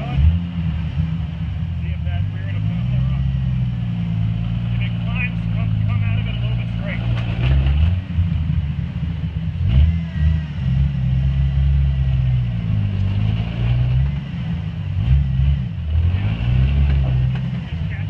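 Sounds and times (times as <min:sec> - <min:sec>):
engine idling and revving: 0:00.0 - 0:18.0.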